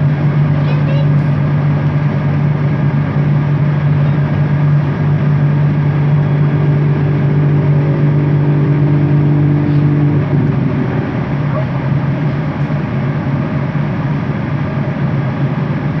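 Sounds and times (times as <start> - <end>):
train motor hum: 0.0 - 16.0.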